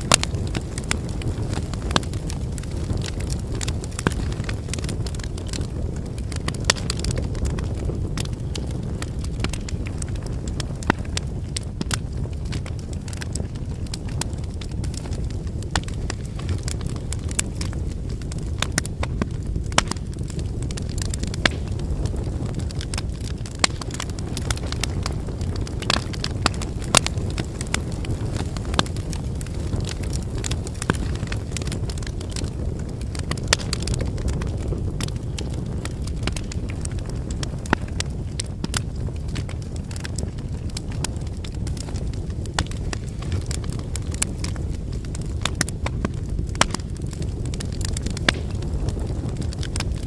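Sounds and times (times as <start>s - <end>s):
fire crackling and popping: 0.0s - 50.0s
low rush of flames: 0.0s - 50.0s.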